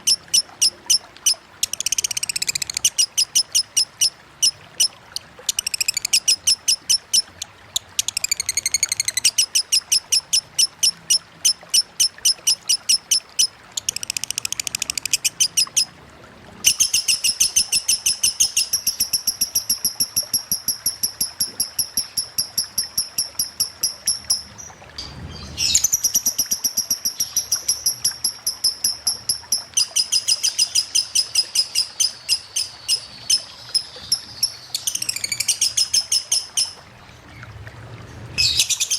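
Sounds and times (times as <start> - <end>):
lovebird chattering song: 0.0 - 15.9, 16.7 - 24.7, 25.4 - 36.8.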